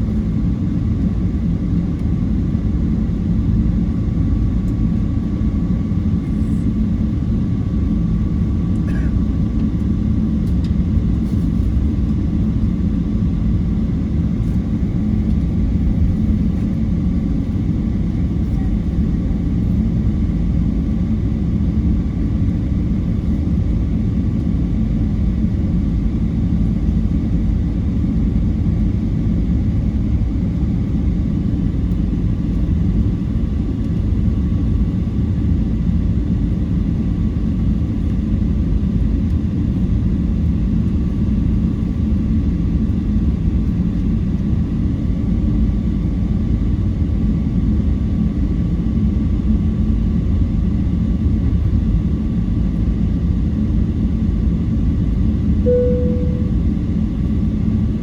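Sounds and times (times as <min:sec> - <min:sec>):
airplane engine rumble: 0:00.0 - 0:58.0.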